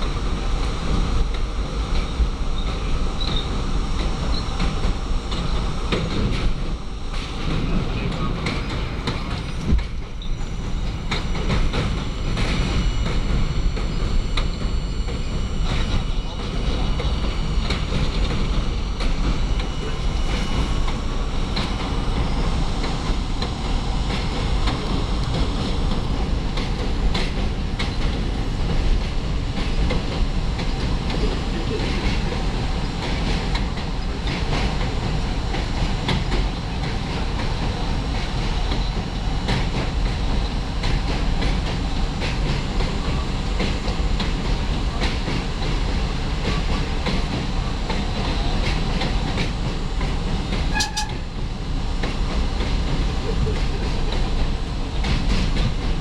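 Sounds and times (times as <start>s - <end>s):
subway car rumbling: 0.0s - 56.0s.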